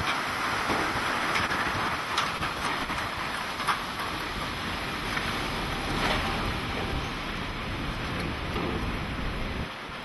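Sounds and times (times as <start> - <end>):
strong wind and rain: 0.0 - 10.0
vehicle driving on wet streets: 0.0 - 10.0.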